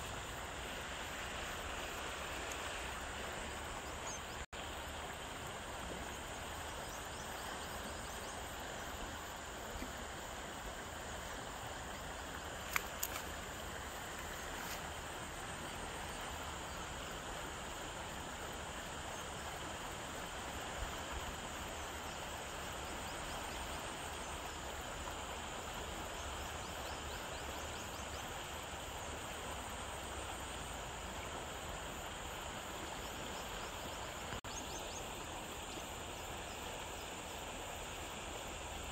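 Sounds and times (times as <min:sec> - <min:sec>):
insects chirring: 0:00.0 - 0:38.9
outdoor background hiss: 0:00.0 - 0:38.9.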